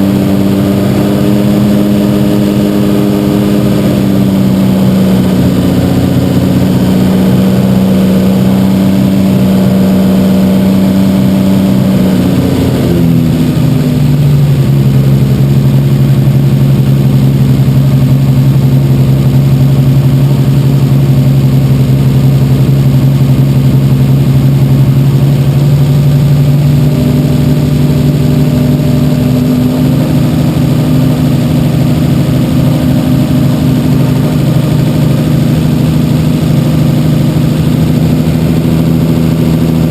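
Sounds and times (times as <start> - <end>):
turbo engine idling: 0.0 - 39.9.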